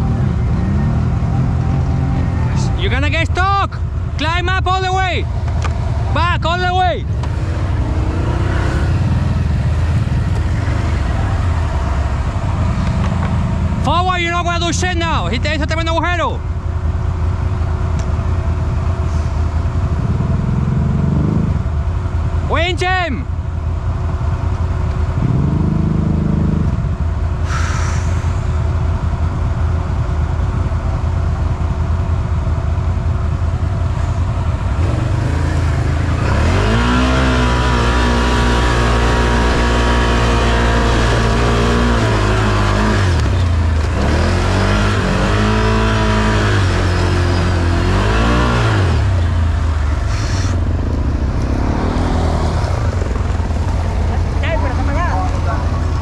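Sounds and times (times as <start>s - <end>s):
atv engine revving: 0.0s - 3.6s, 4.2s - 15.8s, 19.8s - 21.9s, 24.9s - 29.6s, 30.4s - 56.0s.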